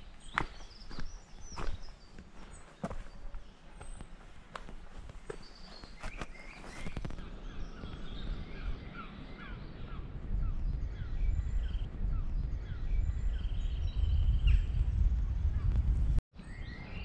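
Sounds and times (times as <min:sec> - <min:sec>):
small birds singing: 0:00.0 - 0:15.8, 0:16.4 - 0:17.0.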